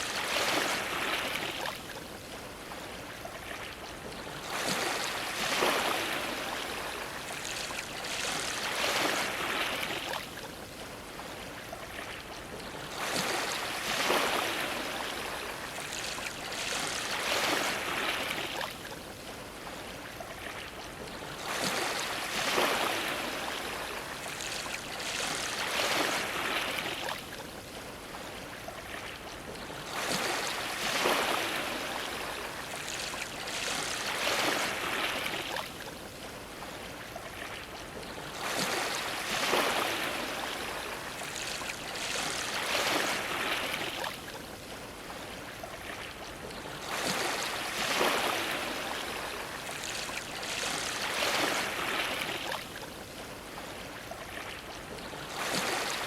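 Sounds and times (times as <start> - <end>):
ocean waves splashing against dock: 0.0 - 56.0.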